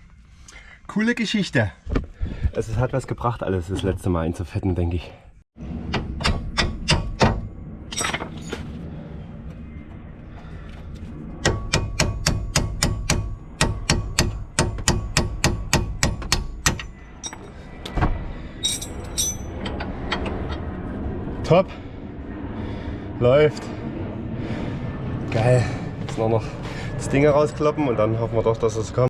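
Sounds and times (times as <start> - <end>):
steady low hum: 5.3 - 29.0.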